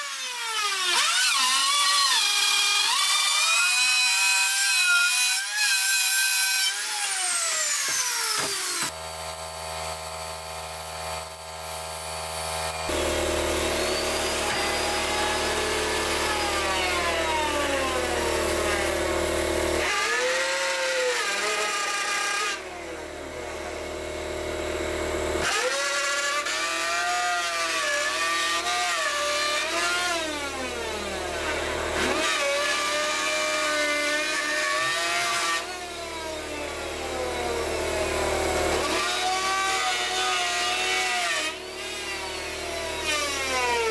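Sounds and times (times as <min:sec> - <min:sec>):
router motor whine: 0:00.0 - 0:43.9.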